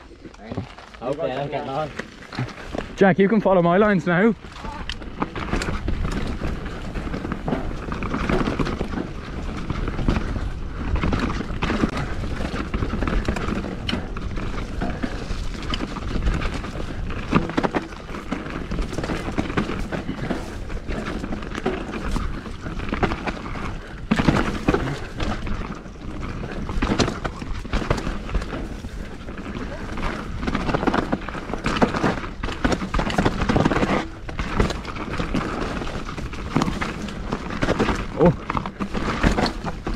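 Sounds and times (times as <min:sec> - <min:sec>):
mountain bike on dirt trail: 0:00.0 - 0:39.9
bike knocks and rattles: 0:00.4 - 0:39.9.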